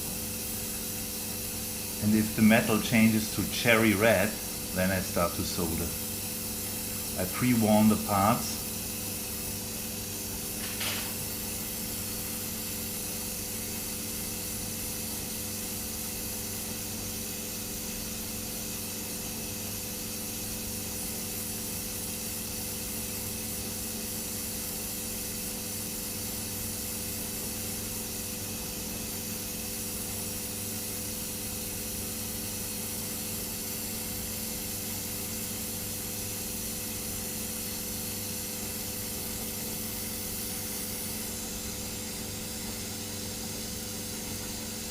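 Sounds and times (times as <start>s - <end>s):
steady hum: 0.0s - 24.8s, 26.0s - 44.9s
torch flame hissing: 0.0s - 44.9s.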